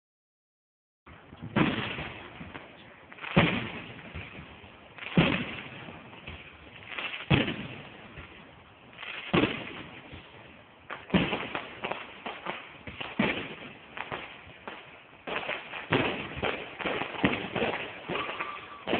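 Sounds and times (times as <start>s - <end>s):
crackling firework pops: 1.1s - 18.9s
fireworks bangs with echoing rumble: 1.1s - 18.9s.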